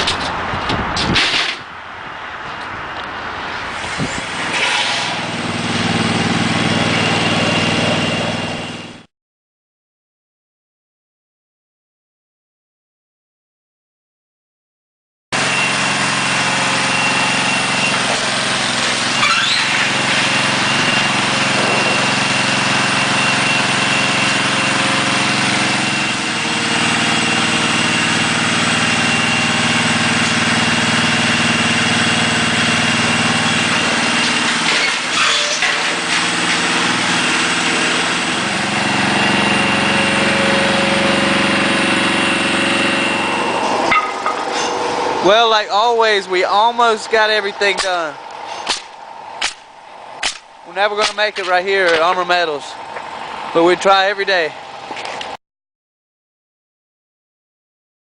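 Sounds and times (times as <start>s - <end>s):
engine running: 0.0s - 9.1s, 15.4s - 55.4s.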